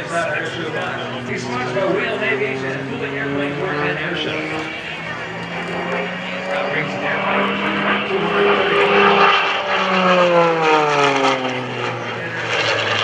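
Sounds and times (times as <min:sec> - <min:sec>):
propeller plane engine passing: 0:00.0 - 0:13.0.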